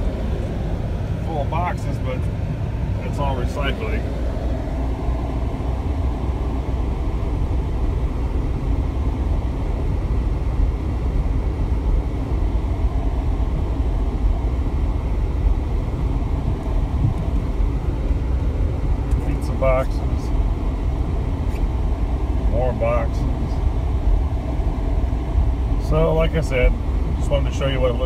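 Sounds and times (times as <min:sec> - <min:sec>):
low rumble of engine and tyres: 0:00.0 - 0:28.0.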